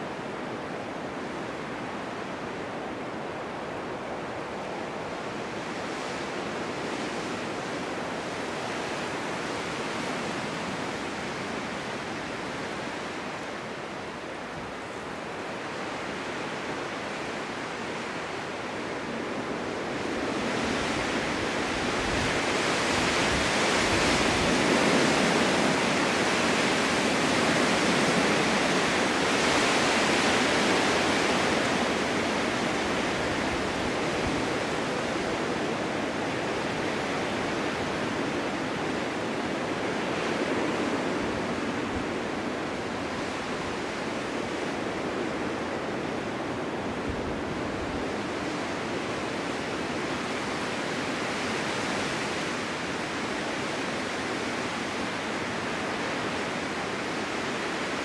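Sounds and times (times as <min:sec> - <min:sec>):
wind gusting in a snowstorm: 0:00.0 - 0:58.0.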